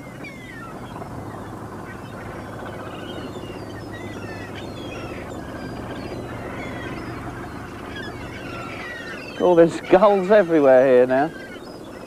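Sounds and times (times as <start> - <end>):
gulls calling: 0.0 - 12.0
steady low hum: 0.0 - 12.0.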